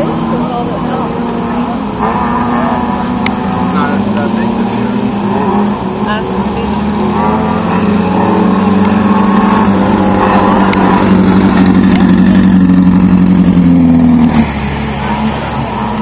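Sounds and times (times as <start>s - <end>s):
race vehicle engine running: 0.0s - 16.0s.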